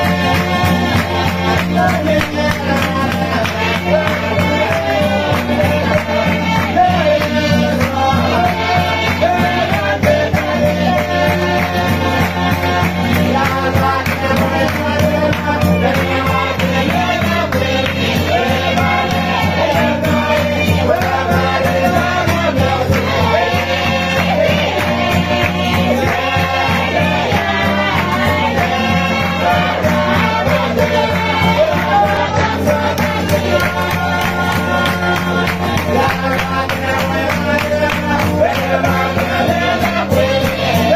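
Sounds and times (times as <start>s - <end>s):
group of voices singing: 0.0s - 40.9s
rhythmic beat and instruments: 0.0s - 40.9s
sustained bass line: 0.0s - 40.9s.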